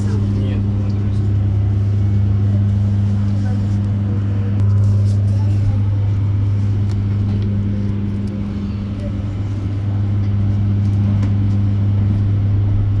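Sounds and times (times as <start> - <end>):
bus ride rumble: 0.0 - 13.0
low electric hum: 0.0 - 13.0.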